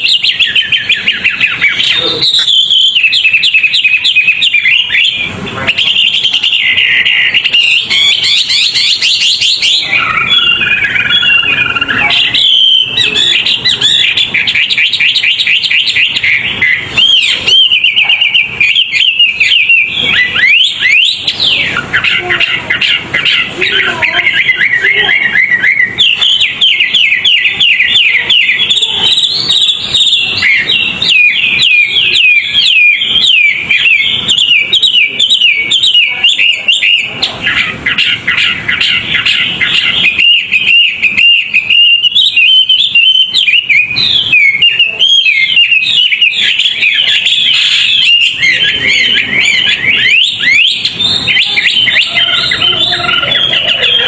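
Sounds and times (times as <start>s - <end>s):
songbird singing rapid chirps: 0.0s - 54.0s.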